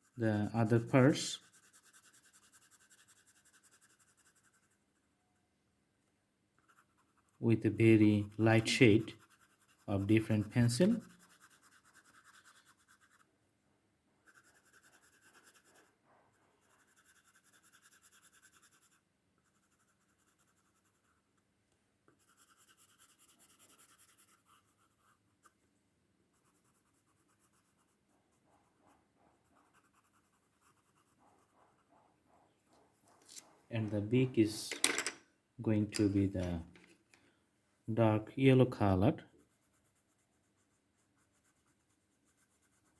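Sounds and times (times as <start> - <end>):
pencil scratching on paper: 0.0 - 5.0, 6.6 - 13.3, 14.2 - 21.4, 22.1 - 25.6, 26.3 - 34.6, 39.3 - 42.9.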